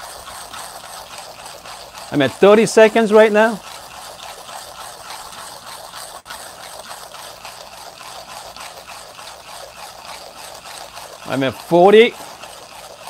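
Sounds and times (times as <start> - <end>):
hand coffee grinder crunching beans: 0.0 - 13.0.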